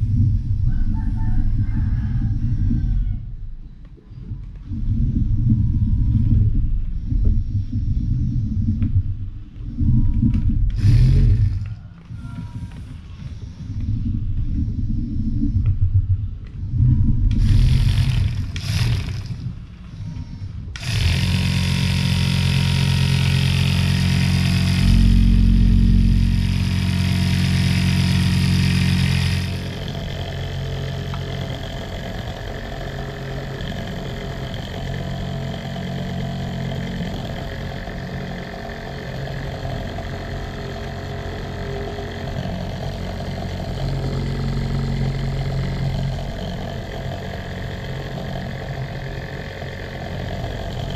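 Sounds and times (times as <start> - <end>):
small motors whining: 0.0 - 50.9.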